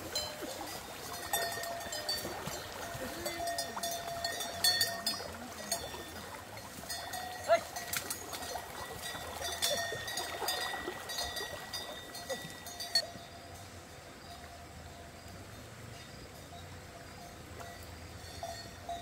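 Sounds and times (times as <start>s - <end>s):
animal bells clanking: 0.0s - 19.0s.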